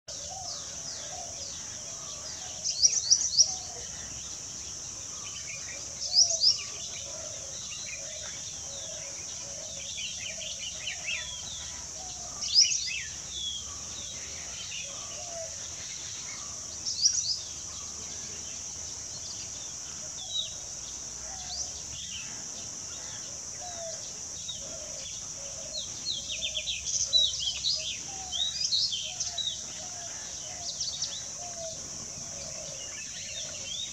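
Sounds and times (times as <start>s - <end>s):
bird chirping: 0.1s - 33.9s.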